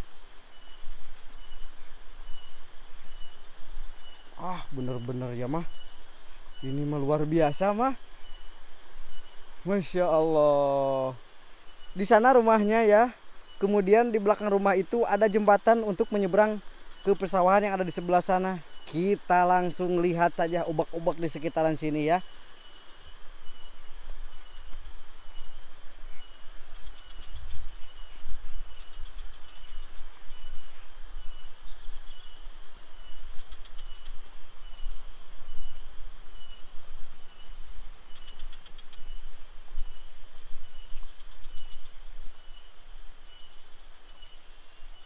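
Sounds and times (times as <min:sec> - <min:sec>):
broad hiss: 0:00.0 - 0:45.0
insects trilling and buzzing: 0:00.0 - 0:45.0.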